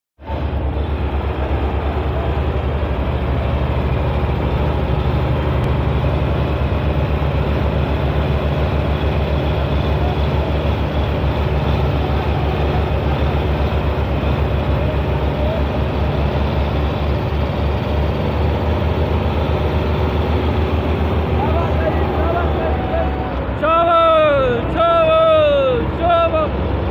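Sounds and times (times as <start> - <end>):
tractor diesel engine under load: 0.2 - 26.9.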